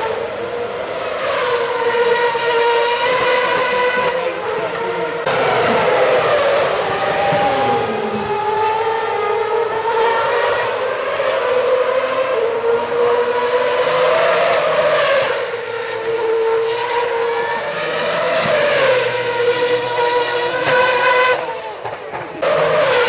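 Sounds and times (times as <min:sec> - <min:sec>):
racing car engines at high revs: 0:00.0 - 0:23.0.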